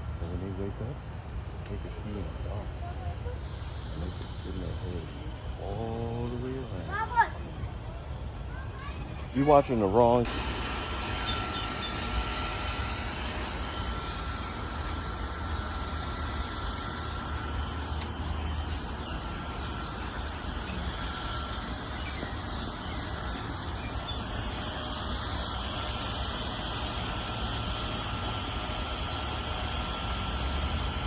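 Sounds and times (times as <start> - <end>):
low rumble and hiss: 0.0 - 31.0
faint high bird chirps: 1.8 - 28.4.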